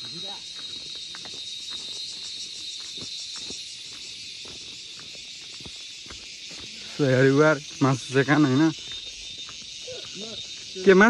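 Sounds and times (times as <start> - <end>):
footsteps on dirt path: 0.0 - 11.0
shrill pulsing insect chorus: 0.0 - 11.0.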